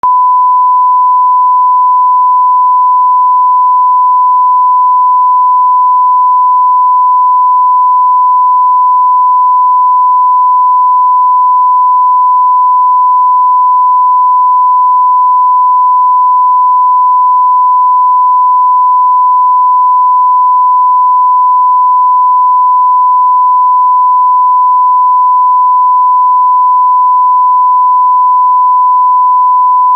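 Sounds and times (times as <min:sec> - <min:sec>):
censor beep tone: 0:00.0 - 0:29.9.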